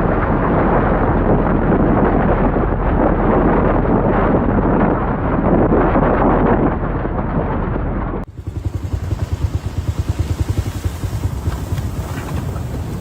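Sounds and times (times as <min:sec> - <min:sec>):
strong wind rushing: 0:00.0 - 0:13.0
wind buffeting microphone: 0:00.0 - 0:13.0.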